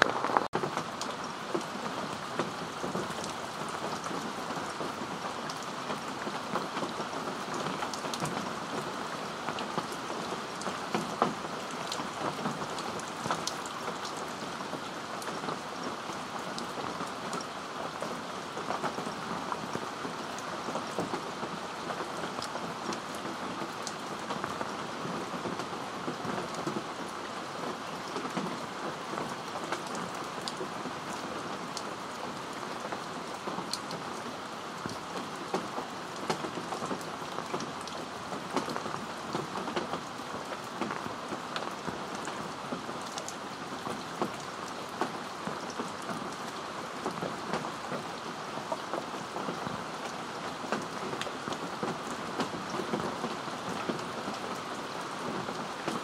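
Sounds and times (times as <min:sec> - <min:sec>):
heavy rain on fabric umbrella: 0:00.0 - 0:56.0.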